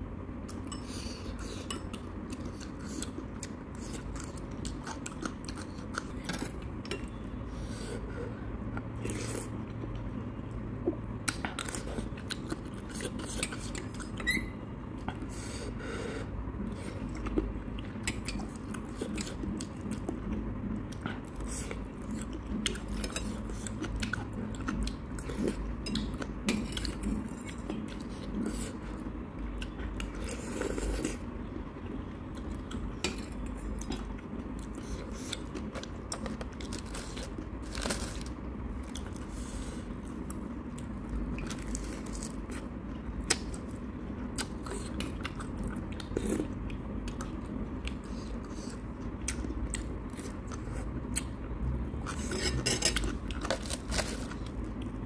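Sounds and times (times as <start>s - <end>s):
close chewing and eating noodles: 0.4s - 55.0s.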